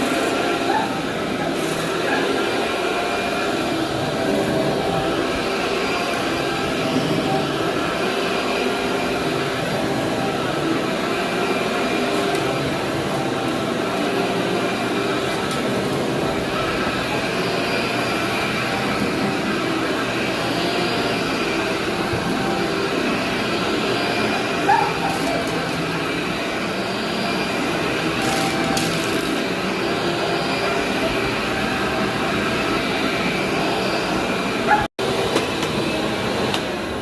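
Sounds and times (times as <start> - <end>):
vacuum cleaner on carpet: 0.0 - 37.0.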